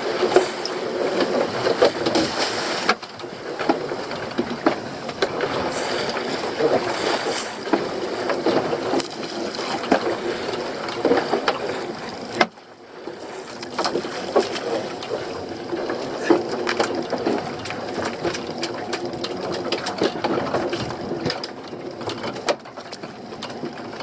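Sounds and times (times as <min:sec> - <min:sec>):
boat motor: 0:00.0 - 0:24.0
water wash: 0:00.0 - 0:24.0.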